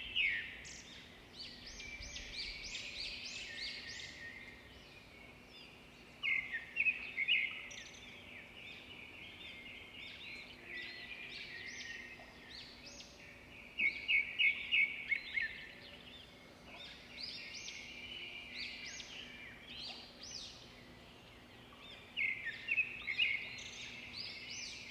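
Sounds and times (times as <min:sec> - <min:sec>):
birds singing and chirping: 0:00.0 - 0:24.9.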